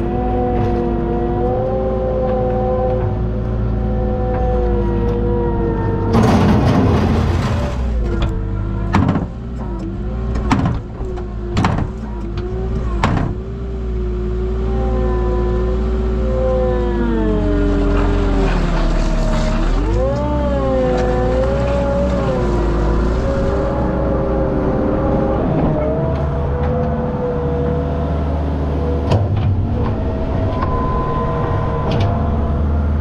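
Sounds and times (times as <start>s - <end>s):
loader engine running: 0.0s - 33.0s.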